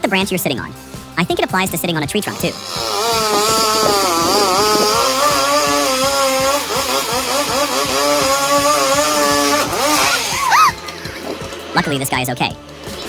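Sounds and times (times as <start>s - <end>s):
chainsaw engine cutting: 1.4s - 13.0s.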